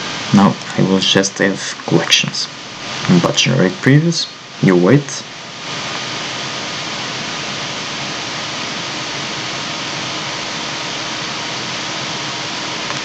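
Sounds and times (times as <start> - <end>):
computer cooling fan rushing: 0.0 - 13.0
faint hum: 0.0 - 13.0.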